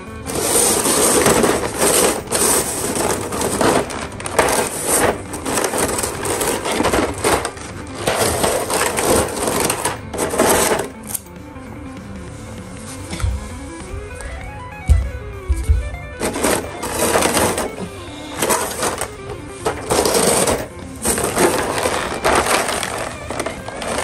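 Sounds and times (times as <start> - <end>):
plastic packaging rustling and clattering: 0.0 - 11.2, 15.7 - 24.0
background music: 0.0 - 24.0.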